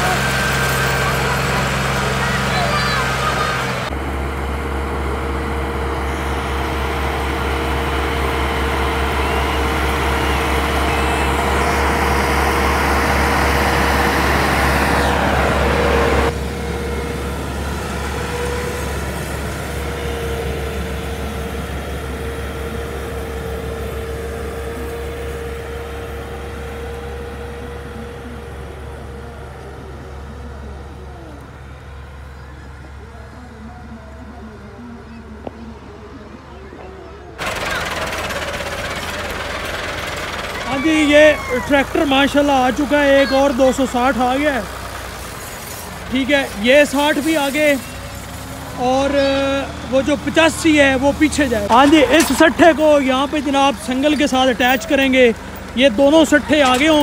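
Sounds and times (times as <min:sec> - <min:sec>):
second tractor engine: 0:00.0 - 0:57.0
tractor diesel engine under load: 0:00.0 - 0:57.0.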